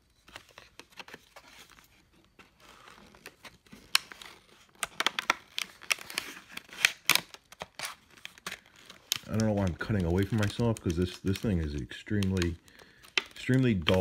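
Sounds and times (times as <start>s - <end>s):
plastic packaging crackling: 0.1s - 14.0s.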